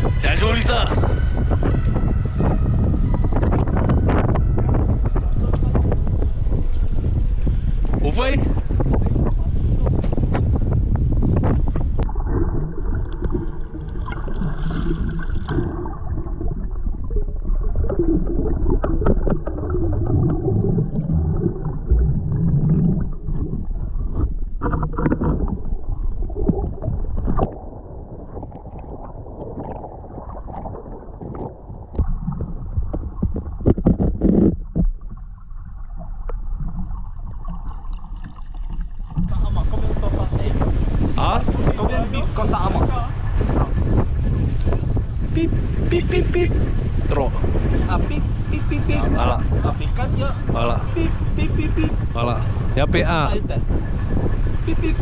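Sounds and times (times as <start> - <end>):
underwater water sloshing and gurgling: 0.0 - 55.0.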